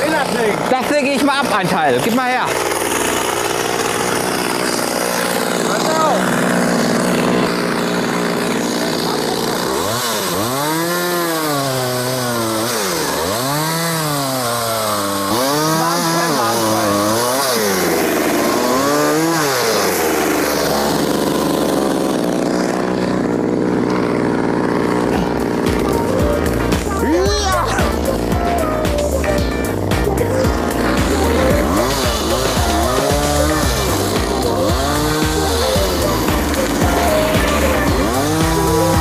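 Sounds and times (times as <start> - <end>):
chainsaw revving: 0.0 - 39.0.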